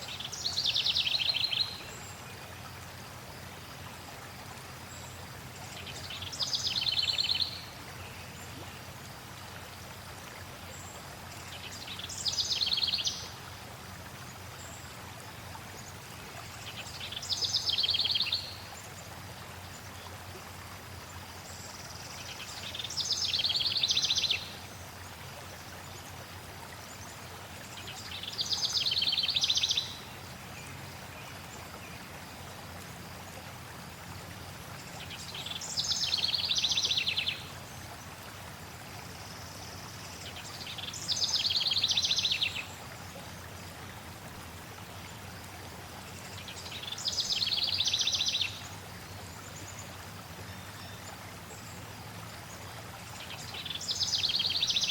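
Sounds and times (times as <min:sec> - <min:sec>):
flowing water: 0:00.0 - 0:54.9.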